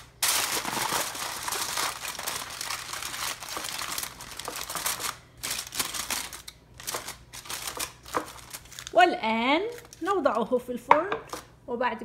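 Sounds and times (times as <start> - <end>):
aluminium foil crinkling: 0.0 - 10.3.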